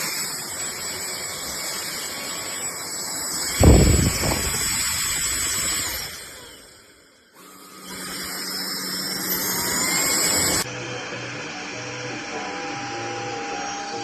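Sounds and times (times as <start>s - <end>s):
vacuum motor whine: 0.0s - 14.0s.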